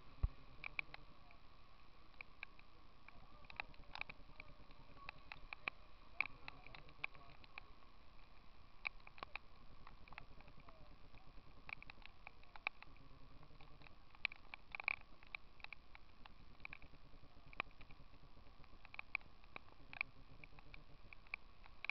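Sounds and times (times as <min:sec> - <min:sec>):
faint steady hum: 0:00.0 - 0:21.9
raindrops ticking on microphone: 0:00.0 - 0:21.9.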